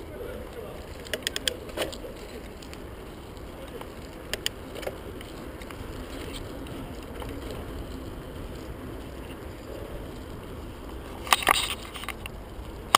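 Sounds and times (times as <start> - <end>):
bike rattling over bump: 0.0 - 12.9
bike tyres rumbling on asphalt: 0.0 - 12.9.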